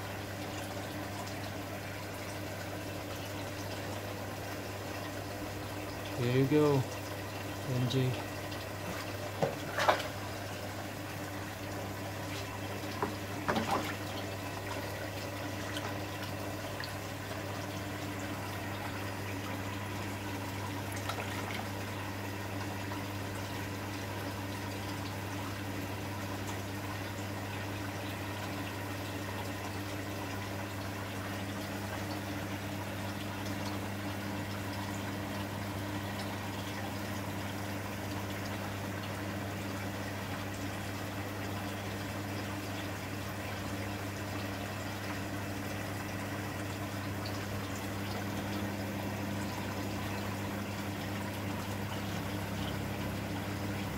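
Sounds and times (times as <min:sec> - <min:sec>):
aquarium filter pump humming: 0:00.0 - 0:53.9
water pouring and bubbling: 0:07.0 - 0:53.9.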